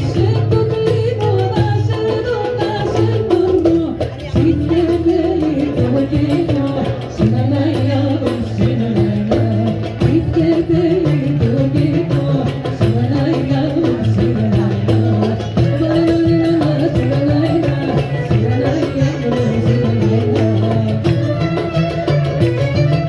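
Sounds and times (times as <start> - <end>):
folk melody over bass line: 0.0 - 23.0
hand percussion: 0.0 - 23.0.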